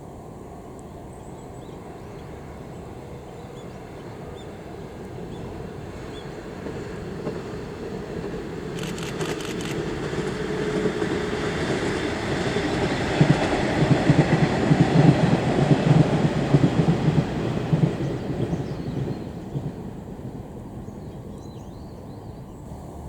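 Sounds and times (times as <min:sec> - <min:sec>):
diesel railcar running on rails: 0:00.0 - 0:23.0.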